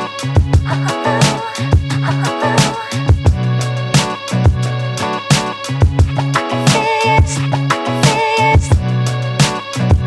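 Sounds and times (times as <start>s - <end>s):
bass: 0.0s - 10.0s.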